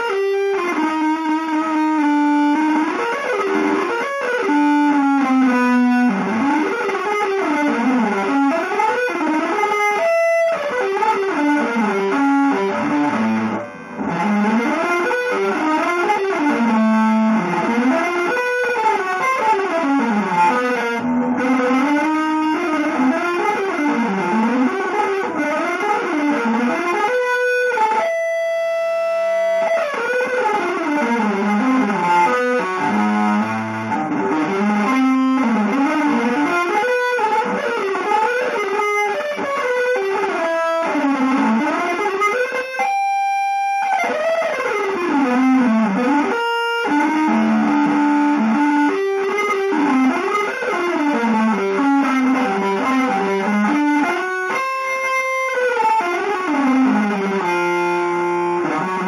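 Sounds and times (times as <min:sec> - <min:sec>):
electric guitar melodic runs: 0:00.0 - 0:59.0.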